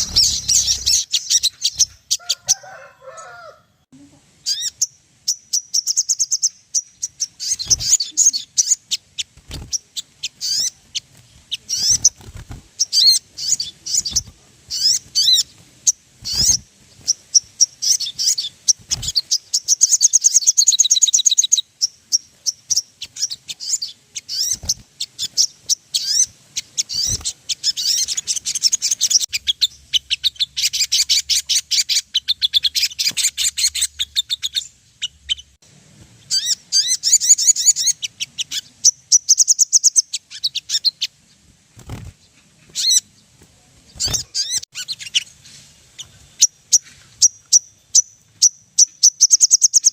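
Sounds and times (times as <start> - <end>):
birds chirping and trilling: 0.0 - 3.6, 4.4 - 49.9.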